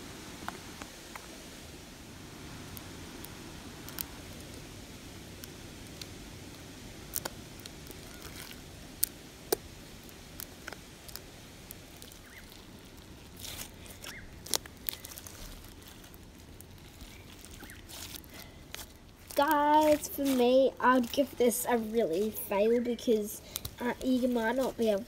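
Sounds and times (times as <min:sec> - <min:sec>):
slime clicks and crackles: 0:02.7 - 0:04.7, 0:05.3 - 0:22.5, 0:23.1 - 0:25.0.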